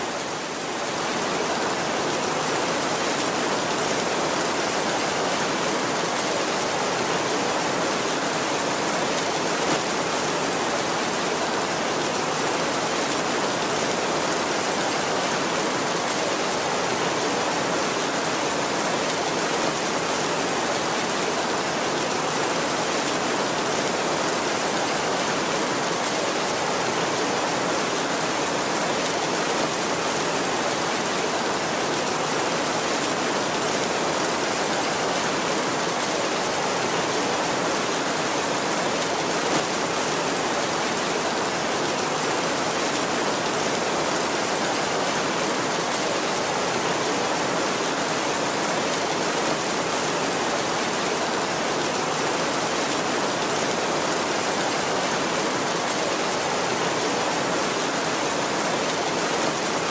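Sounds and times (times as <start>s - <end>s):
heavy rain on a tin roof: 0.0s - 59.9s.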